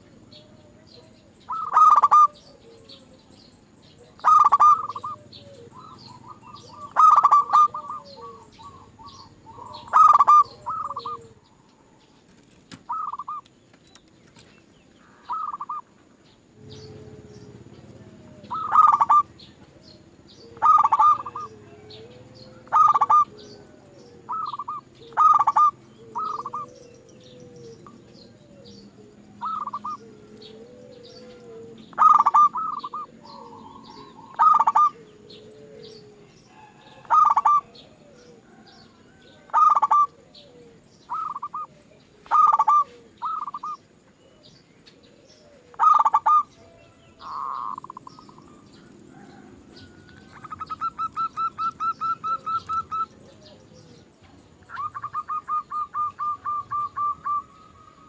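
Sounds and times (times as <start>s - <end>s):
dove stuttered call: 0.0s - 3.2s, 4.0s - 11.7s, 12.7s - 13.5s, 15.1s - 16.0s, 16.6s - 44.0s, 45.0s - 58.0s.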